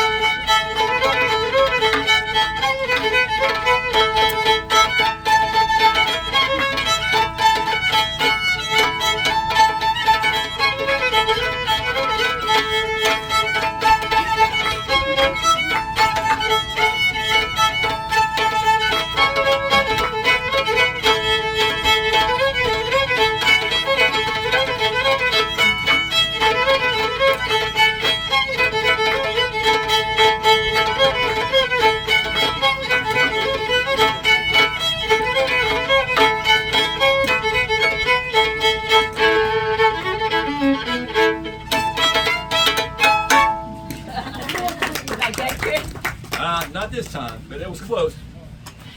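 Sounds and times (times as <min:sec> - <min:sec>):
fiddle playing dance tune: 0:00.0 - 0:48.2
fiddlesticks tapping strings: 0:00.0 - 0:48.9.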